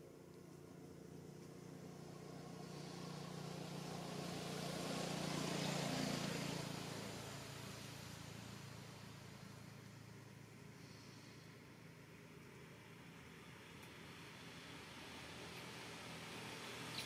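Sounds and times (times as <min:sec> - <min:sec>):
vehicle passing by: 0:00.5 - 0:17.0.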